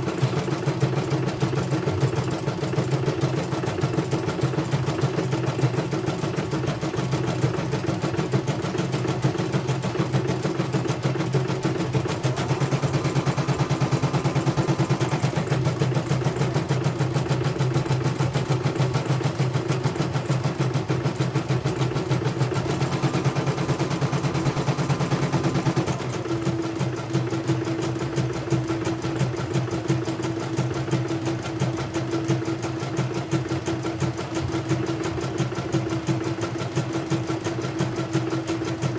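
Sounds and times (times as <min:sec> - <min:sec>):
embroidery machine stitching: 0:00.0 - 0:38.9.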